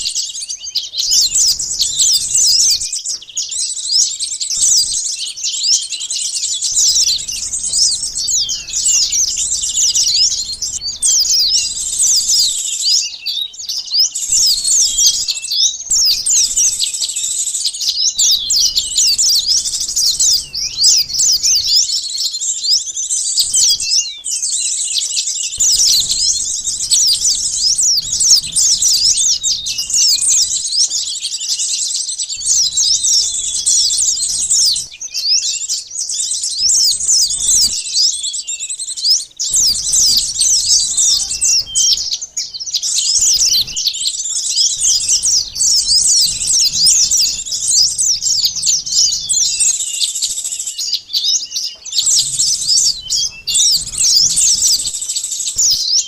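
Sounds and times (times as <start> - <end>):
chorus of small birds chirping: 0.0 - 56.0.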